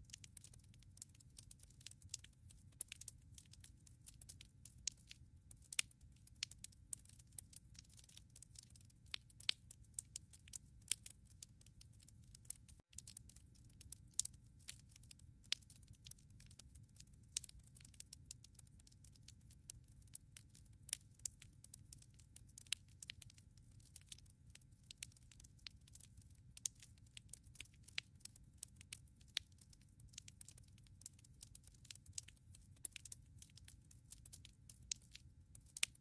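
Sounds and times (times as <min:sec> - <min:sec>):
wood fire snaps and pops: 0:00.1 - 0:36.0.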